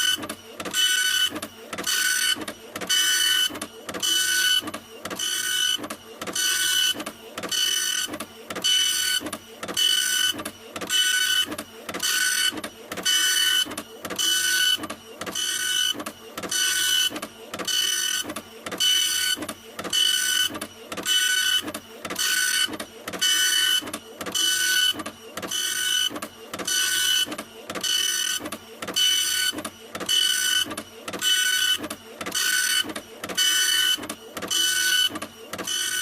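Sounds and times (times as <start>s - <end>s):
printer whirring and whining: 0.0s - 36.0s.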